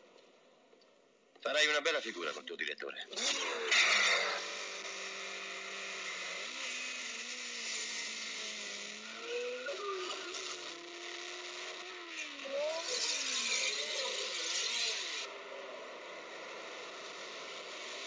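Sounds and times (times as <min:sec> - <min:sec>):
racing car engines revving: 0:03.1 - 0:18.0.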